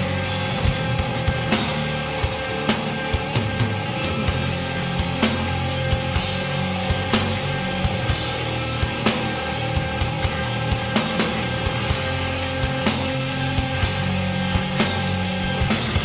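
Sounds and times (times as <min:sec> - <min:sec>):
distorted guitars and bass: 0:00.0 - 0:16.0.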